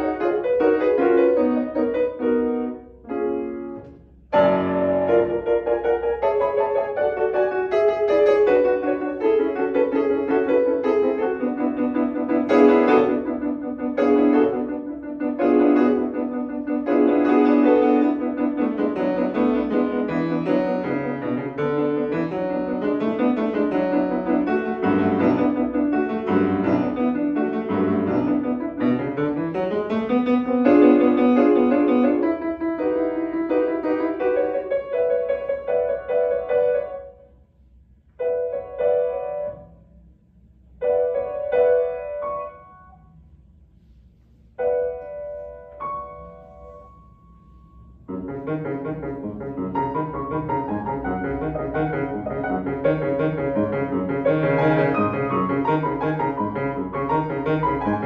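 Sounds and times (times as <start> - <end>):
solo classical piano piece: 0.0 - 58.0.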